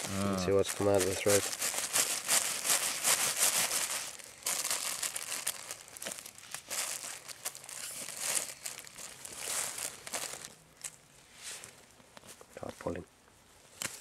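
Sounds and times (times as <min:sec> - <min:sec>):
foil blanket crinkling: 0:00.0 - 0:13.0, 0:13.6 - 0:14.0.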